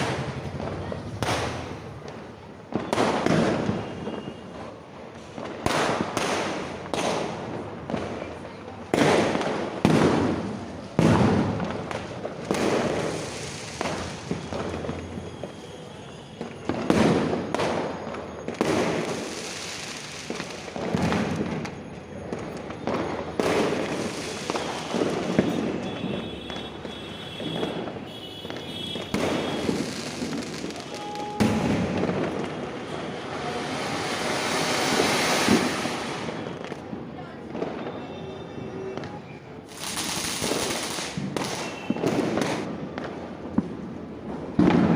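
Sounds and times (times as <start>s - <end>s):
firecrackers banging with echo: 0.0s - 44.9s.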